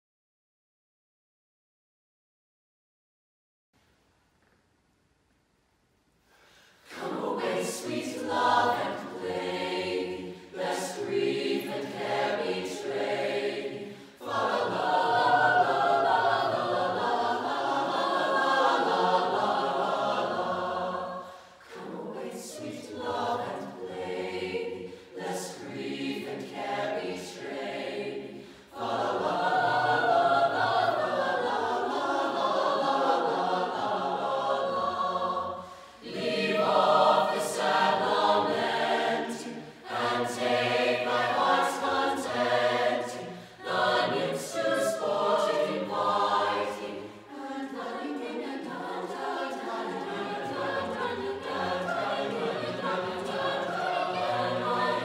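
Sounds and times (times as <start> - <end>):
choir singing a cappella: 6.5 - 55.0.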